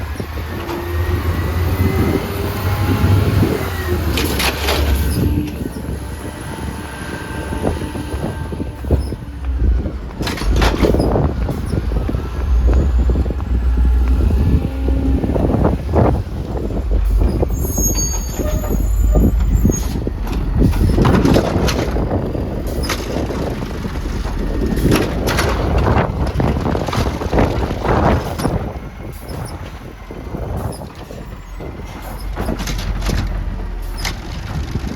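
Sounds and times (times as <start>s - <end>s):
garbage truck engine running: 0.0s - 34.9s
wind buffeting microphone: 0.0s - 34.9s.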